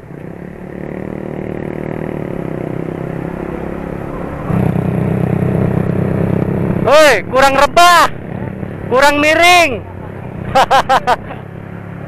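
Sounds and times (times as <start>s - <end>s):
motorcycle engine drone: 0.0s - 12.0s.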